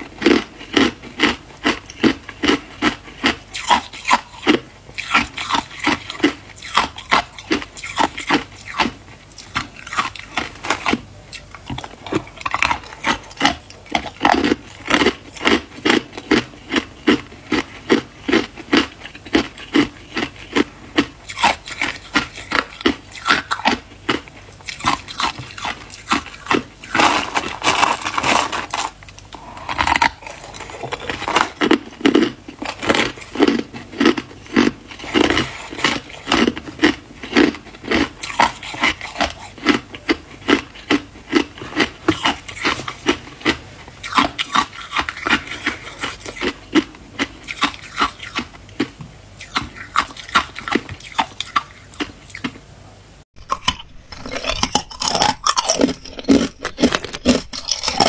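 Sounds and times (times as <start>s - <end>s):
ice crunching while chewed: 0.0s - 52.5s, 53.4s - 58.0s.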